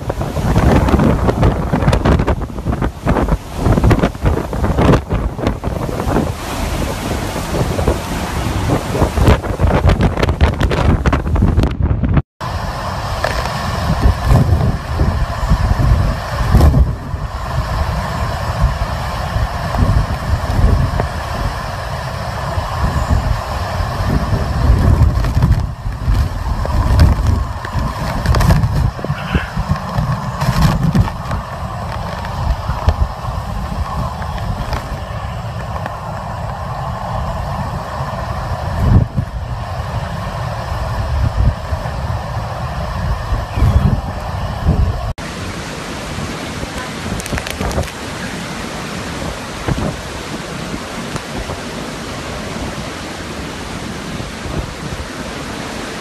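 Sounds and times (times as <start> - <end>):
wind gusting on microphone: 0.0 - 56.0.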